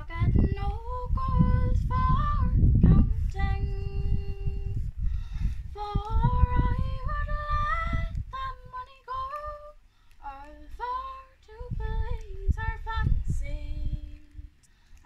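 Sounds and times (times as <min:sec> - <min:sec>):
girl singing unaccompanied: 0:00.0 - 0:14.6
low rumble: 0:00.0 - 0:15.0.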